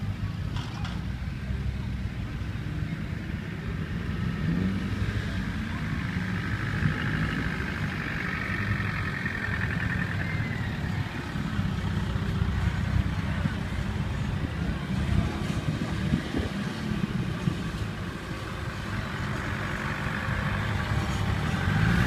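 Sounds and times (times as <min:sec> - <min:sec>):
car engine rumbling: 0:00.0 - 0:22.0.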